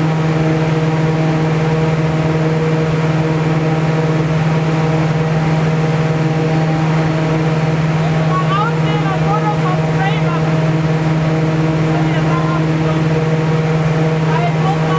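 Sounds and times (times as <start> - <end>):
deep fan hum: 0.0 - 14.9
faint high fan tones: 0.0 - 14.9.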